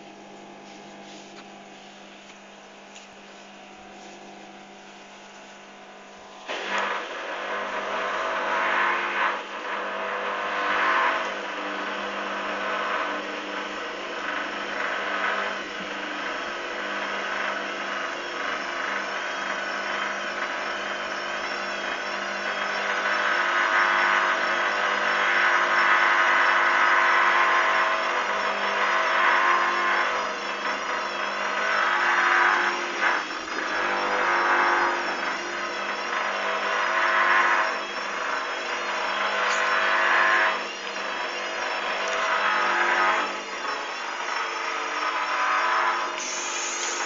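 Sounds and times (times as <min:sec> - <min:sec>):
washing machine drum whining: 0:00.0 - 0:47.0.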